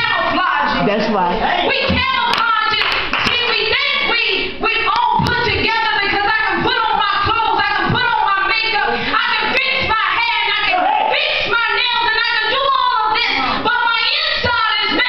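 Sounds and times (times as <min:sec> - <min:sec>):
woman preaching over sound system: 0:00.0 - 0:15.0.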